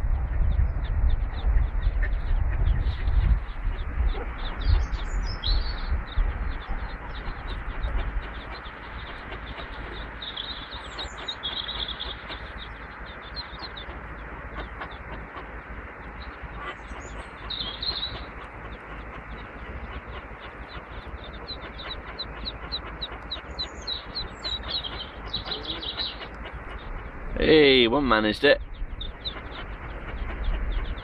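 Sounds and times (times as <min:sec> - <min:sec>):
ducklings peeping: 0:00.0 - 0:31.0
low rumbling on microphone: 0:00.0 - 0:31.0.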